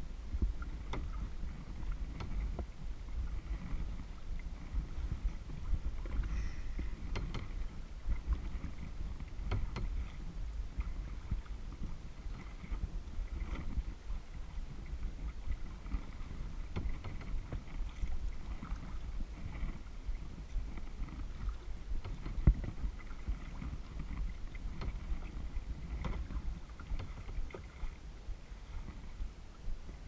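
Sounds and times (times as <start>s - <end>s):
kayak paddle strokes: 0.0s - 30.0s
water against hull: 0.0s - 30.0s
knocks and thump on kayak: 0.3s - 30.0s.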